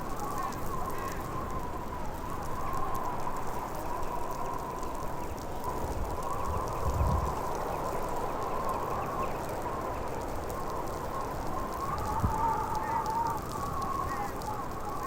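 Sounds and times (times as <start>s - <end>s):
howling blizzard wind: 0.0s - 15.0s.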